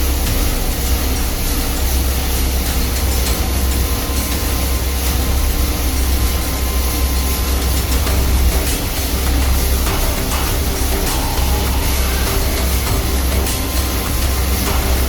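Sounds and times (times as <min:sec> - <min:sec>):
faint steady whine: 0:00.0 - 0:15.0
industrial machinery drone: 0:00.0 - 0:15.0.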